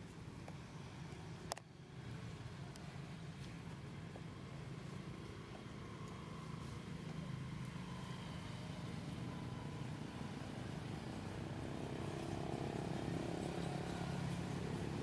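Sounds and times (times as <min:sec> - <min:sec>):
faint high whine: 0:00.0 - 0:15.0
low engine drone: 0:00.0 - 0:15.0.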